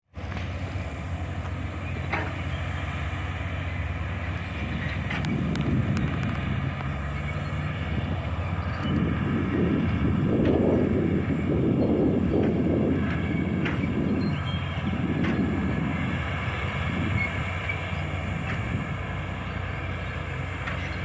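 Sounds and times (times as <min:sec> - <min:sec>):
bulldozer diesel engine running: 0:00.1 - 0:21.0.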